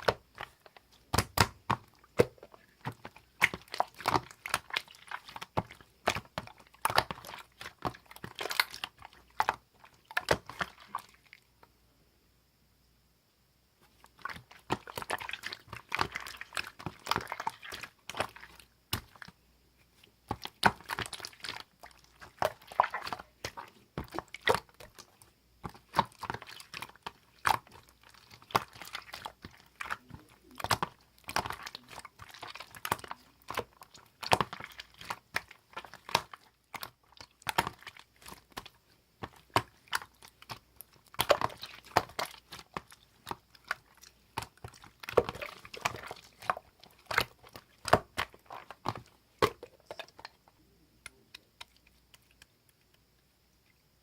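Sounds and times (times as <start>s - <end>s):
slime squished by hand: 0.0s - 11.4s, 13.8s - 53.0s.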